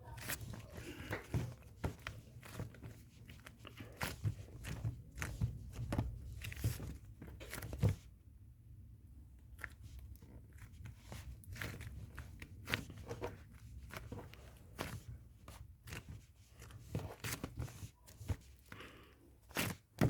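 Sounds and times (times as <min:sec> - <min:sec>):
slime kneaded by hand: 0:00.0 - 0:08.2, 0:09.2 - 0:20.0.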